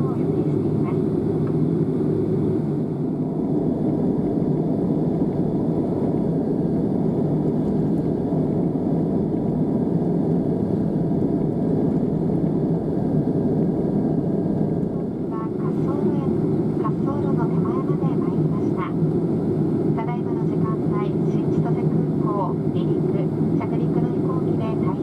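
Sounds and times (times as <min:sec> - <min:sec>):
airliner cabin hum: 0:00.0 - 0:25.0.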